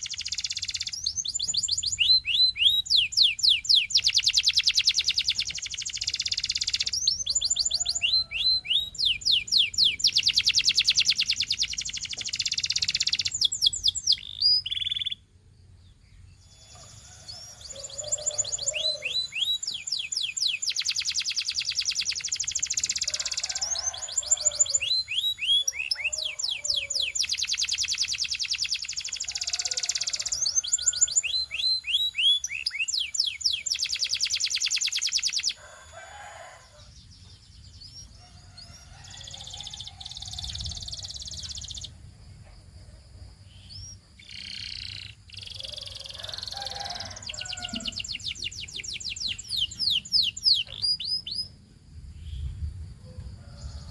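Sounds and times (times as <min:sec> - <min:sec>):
canary singing trills: 0:00.0 - 0:15.3, 0:15.9 - 0:42.0, 0:43.5 - 0:51.6.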